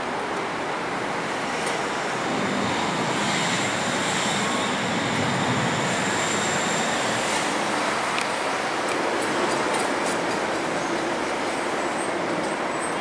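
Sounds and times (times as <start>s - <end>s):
jet engines rushing: 0.1s - 12.9s.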